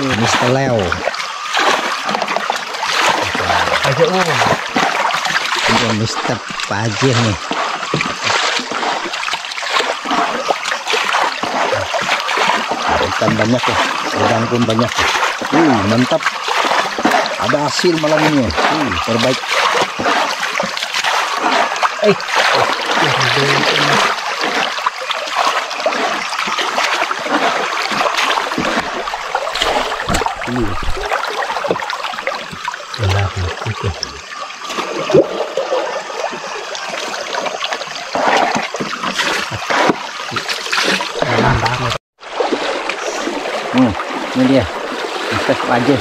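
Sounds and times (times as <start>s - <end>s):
water splashing and trickling: 0.0s - 46.0s.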